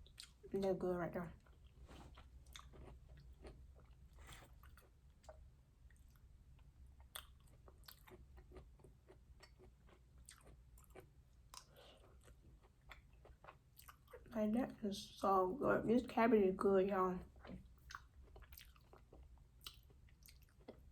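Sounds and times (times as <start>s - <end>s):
chewing food: 0.0s - 0.7s, 1.3s - 14.4s, 17.2s - 20.9s.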